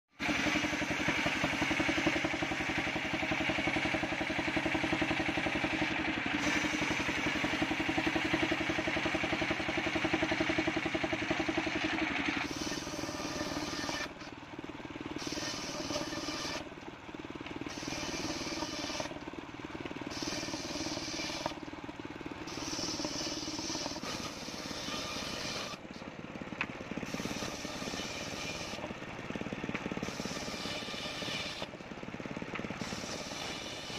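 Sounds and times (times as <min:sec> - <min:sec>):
saw blade cutting wood: 0:00.1 - 0:14.4, 0:15.1 - 0:16.8, 0:17.4 - 0:21.7, 0:22.4 - 0:26.0, 0:26.6 - 0:31.8, 0:32.5 - 0:33.9
saw motor running: 0:00.1 - 0:33.9.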